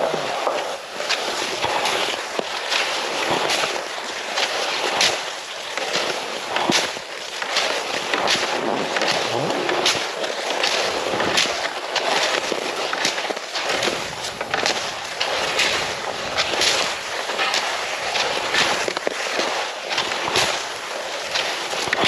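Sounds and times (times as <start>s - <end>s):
footsteps crunching on a trail: 0.0s - 22.0s.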